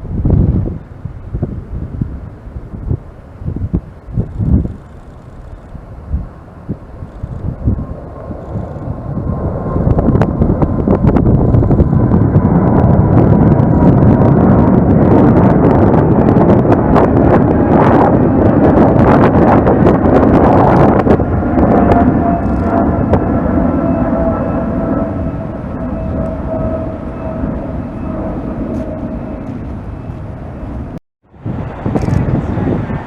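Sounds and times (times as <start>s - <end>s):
jet airliner passing: 0.0s - 33.0s.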